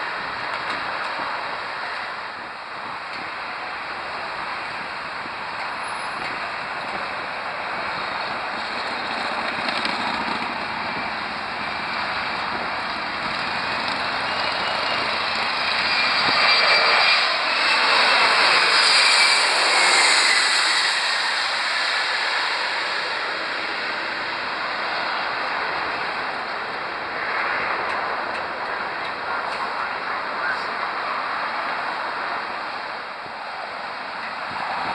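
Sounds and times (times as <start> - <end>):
jet engine whine falling: 0.0 - 34.9
jet passing overhead: 0.0 - 34.9.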